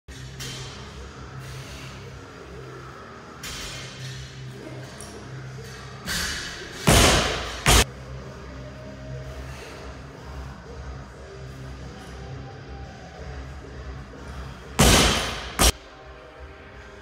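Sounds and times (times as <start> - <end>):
background music: 0.1 - 17.0.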